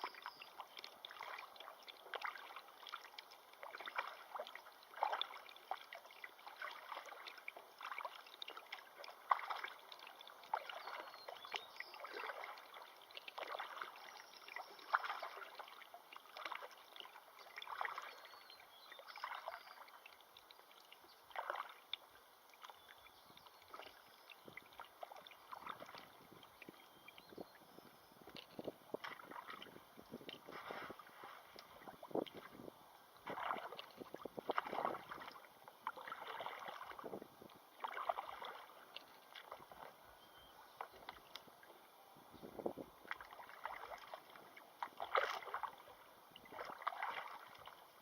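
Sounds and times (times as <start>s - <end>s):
low wash of moving water: 0.0s - 18.3s, 23.6s - 27.6s, 28.3s - 48.0s
river water splashing: 0.0s - 48.0s.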